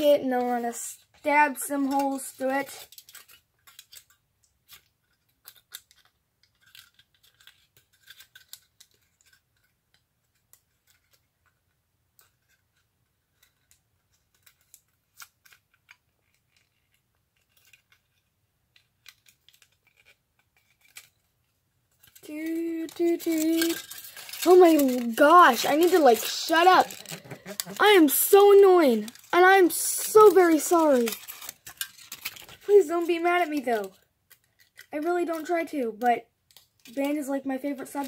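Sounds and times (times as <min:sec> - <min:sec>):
aluminium foil crinkling: 0:00.0 - 0:38.0.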